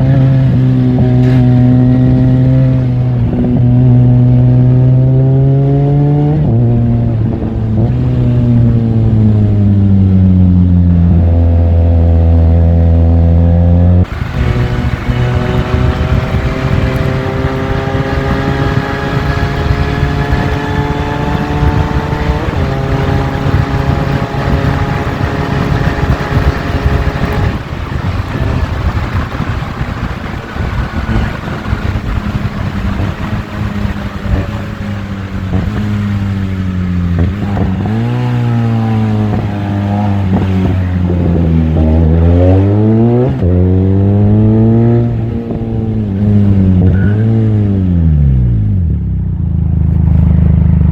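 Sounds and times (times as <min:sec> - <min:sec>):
wind rush: 0:00.0 - 0:12.2, 0:14.0 - 0:47.7
motorcycle engine while riding: 0:00.0 - 0:50.9.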